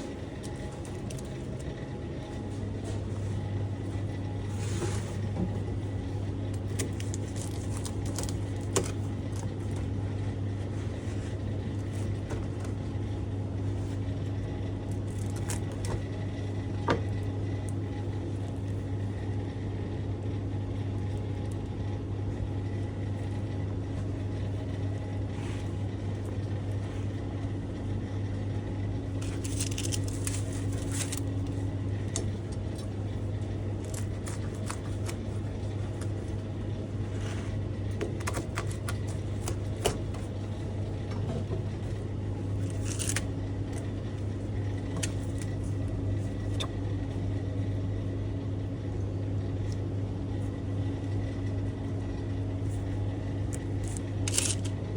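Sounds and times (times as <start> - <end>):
low mechanical motor hum: 0.0 - 54.9.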